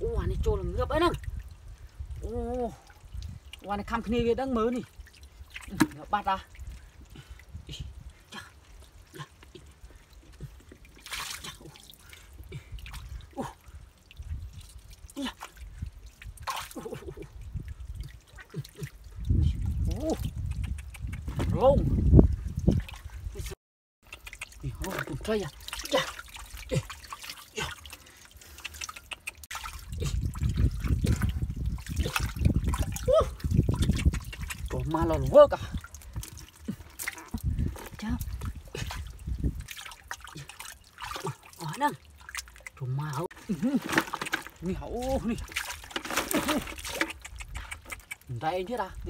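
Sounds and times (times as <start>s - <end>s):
water splashing: 0.0s - 49.0s
hands working in muddy water: 0.1s - 49.0s
water dripping: 0.1s - 49.0s.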